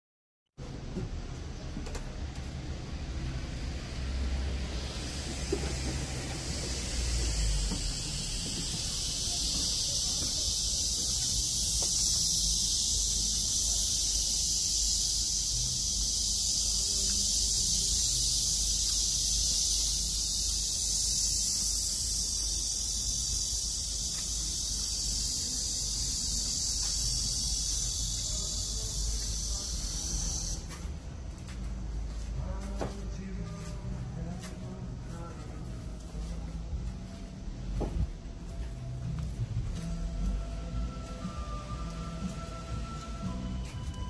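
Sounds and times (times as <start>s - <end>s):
cicadas buzzing: 2.6s - 44.0s.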